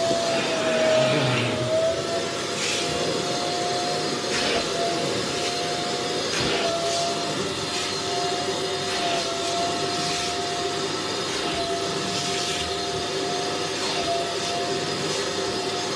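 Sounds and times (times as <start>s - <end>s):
upholstery vacuum whining: 0.0s - 15.9s.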